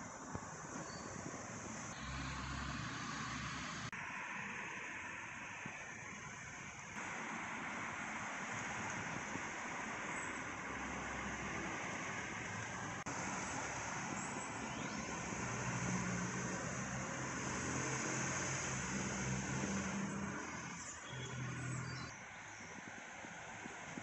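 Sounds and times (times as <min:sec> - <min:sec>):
steady rush of traffic noise: 0:00.0 - 0:24.0
vehicle engine hum: 0:00.0 - 0:24.0.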